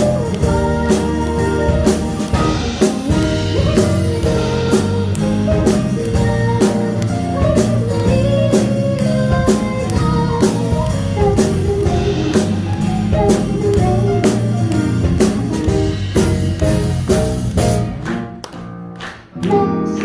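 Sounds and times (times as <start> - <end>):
drum kit beat: 0.0 - 19.9
live band music: 0.0 - 20.0.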